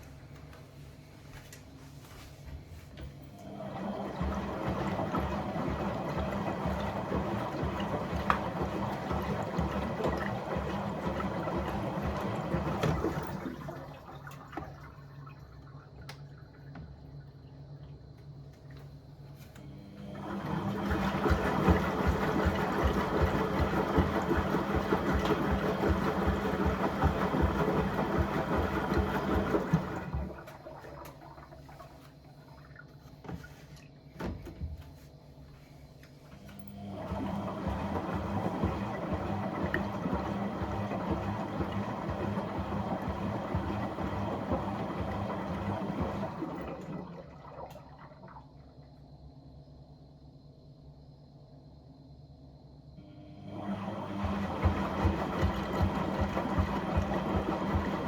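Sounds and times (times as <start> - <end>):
washing machine running: 0.0 - 49.9, 52.8 - 58.0.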